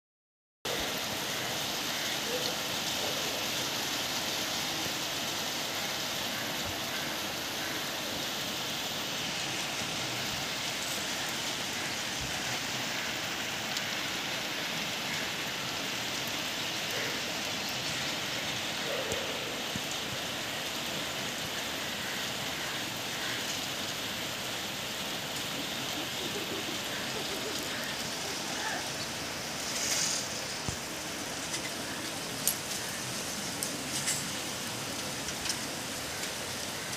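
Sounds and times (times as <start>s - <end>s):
steady rain falling: 0.7s - 36.9s.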